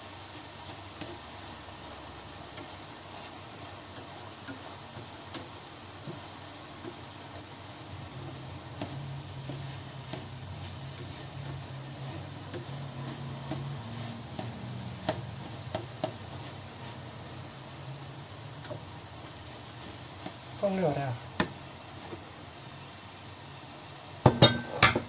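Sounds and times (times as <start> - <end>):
meat frying in a pan: 0.0 - 25.0.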